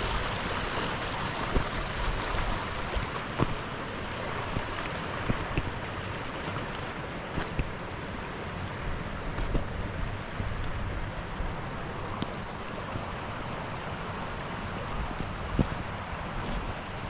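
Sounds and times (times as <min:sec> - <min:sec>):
water flowing: 0:00.0 - 0:17.0.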